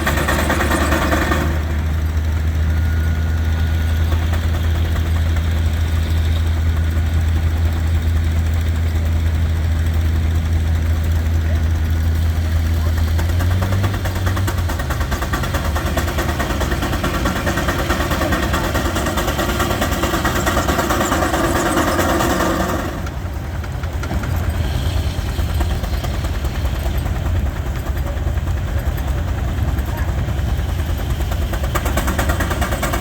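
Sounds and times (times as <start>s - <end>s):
steam traction engine beating: 0.0s - 33.0s.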